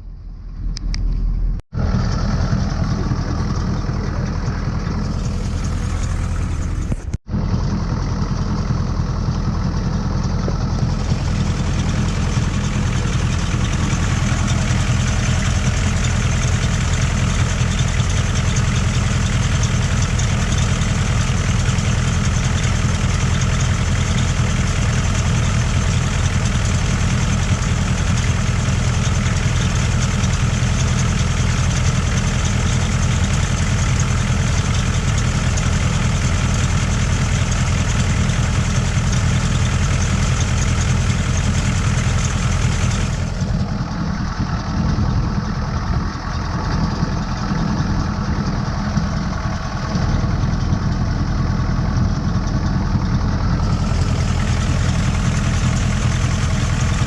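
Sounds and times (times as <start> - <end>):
diesel engine running: 1.4 - 57.0.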